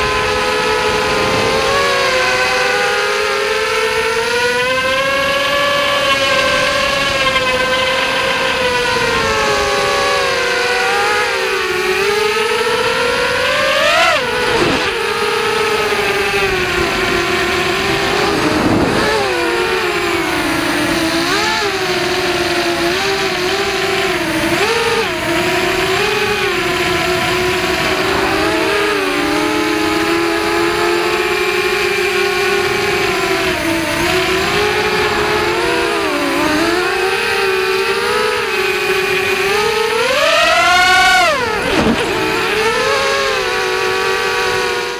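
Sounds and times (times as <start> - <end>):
quadcopter motors whining: 0.0 - 44.9.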